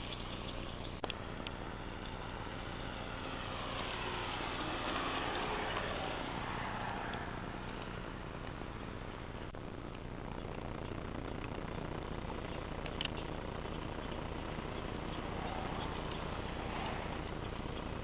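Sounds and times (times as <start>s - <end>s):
electric motorcycle motor whine: 0.0s - 18.0s
steady rushing noise: 0.0s - 18.0s.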